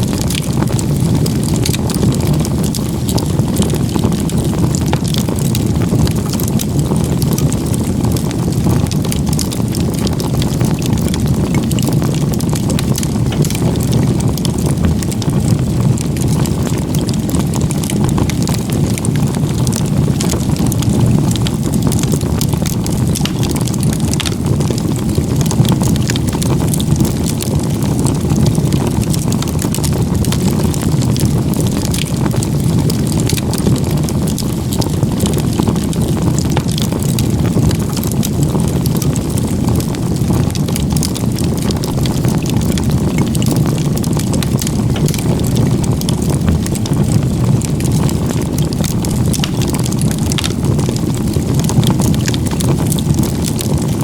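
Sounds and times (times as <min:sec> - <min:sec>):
fire crackling and popping: 0:00.0 - 0:54.0
rush of flames: 0:00.0 - 0:54.0.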